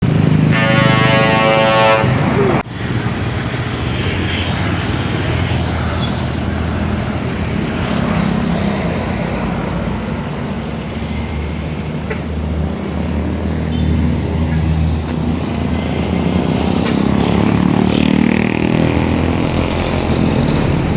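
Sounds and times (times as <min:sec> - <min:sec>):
road traffic noise: 0:00.0 - 0:20.9.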